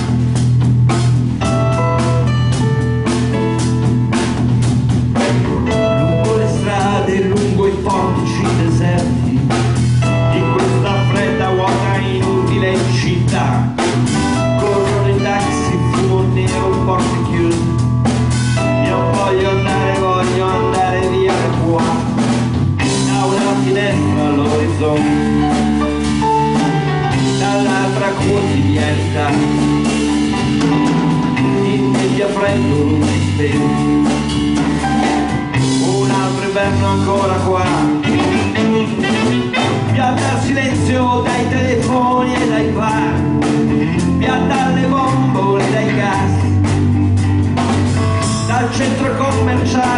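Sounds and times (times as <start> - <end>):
drum kit: 0.0 - 49.9
electric bass: 0.0 - 49.9
electric guitar: 0.0 - 49.9.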